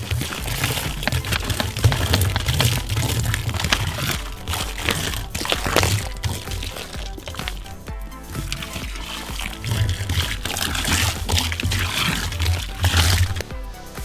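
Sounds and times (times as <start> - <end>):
fizzing and crackling foam: 0.0 - 13.5
fizzy drink pouring and splashing: 0.0 - 13.5
background music: 0.0 - 14.0.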